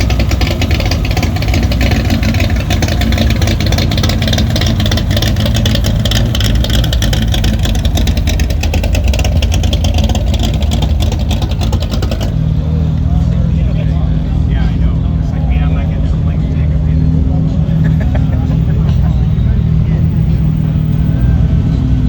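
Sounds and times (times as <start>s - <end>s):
car engine running loudly: 0.0s - 22.0s.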